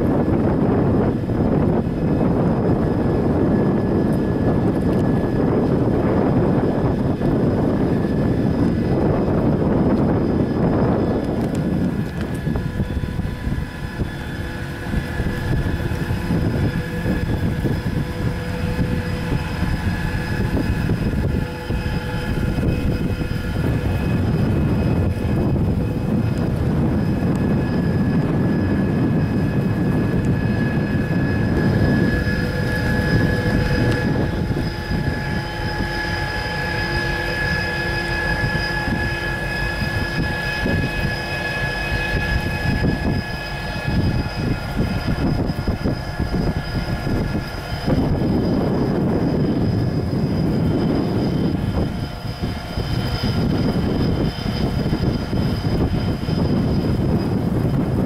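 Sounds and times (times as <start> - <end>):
diesel engines droning: 0.0 - 58.0
high engine whine: 0.0 - 58.0.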